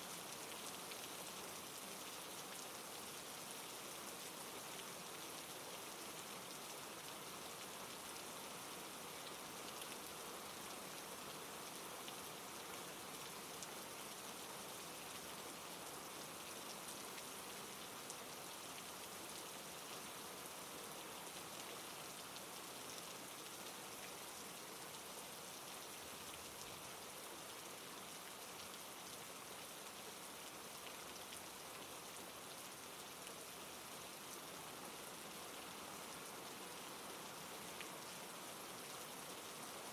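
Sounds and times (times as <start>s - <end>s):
soft rain hiss: 0.0s - 39.9s.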